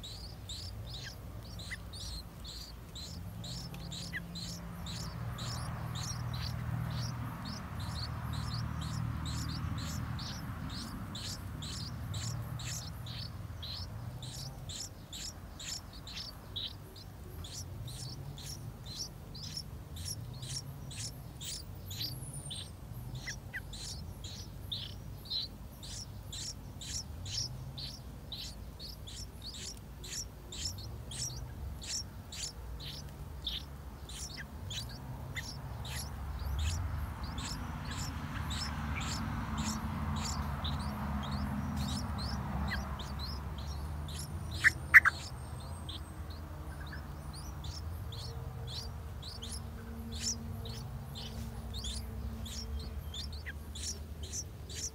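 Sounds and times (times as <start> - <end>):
nestlings begging with high chirps: 0.0 - 54.9.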